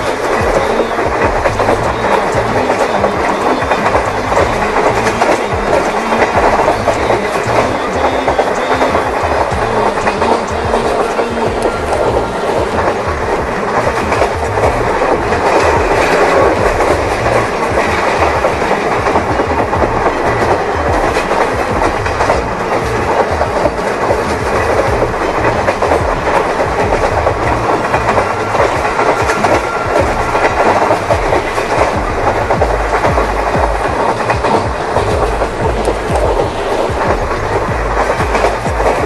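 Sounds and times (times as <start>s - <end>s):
train wheels clattering on rails: 0.0s - 39.0s.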